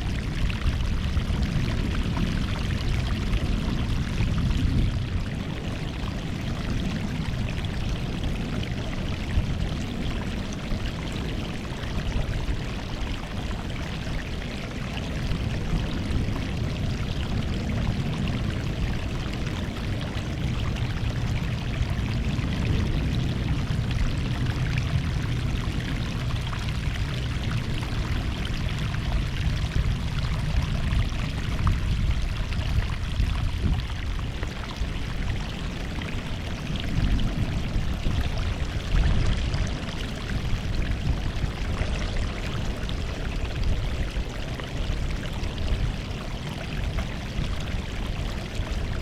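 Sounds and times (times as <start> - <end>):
sea waves washing onto shore: 0.0 - 49.0.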